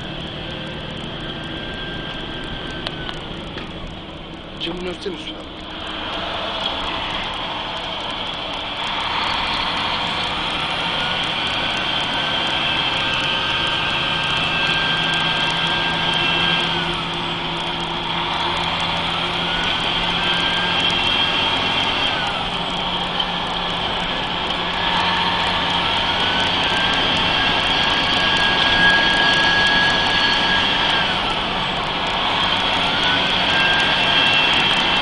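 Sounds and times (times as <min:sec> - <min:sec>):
diesel truck engine revving: 0:00.0 - 0:35.0
turbocharger whistle: 0:05.8 - 0:35.0.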